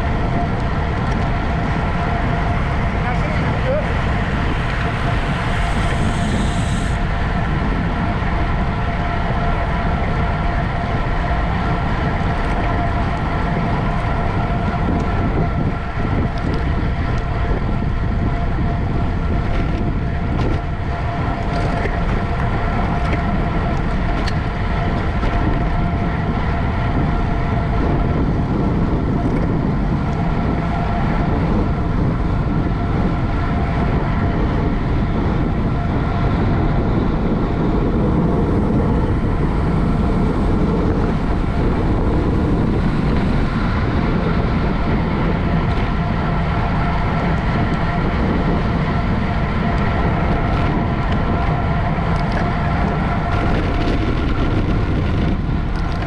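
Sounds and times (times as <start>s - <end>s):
constant whine: 0.0s - 56.0s
wind and road rush: 0.0s - 56.0s.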